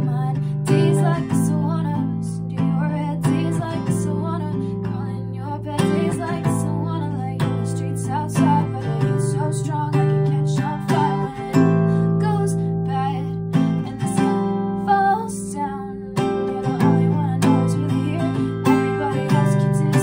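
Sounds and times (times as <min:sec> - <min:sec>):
acoustic guitar strumming: 0:00.0 - 0:20.0
woman singing softly: 0:00.0 - 0:20.0.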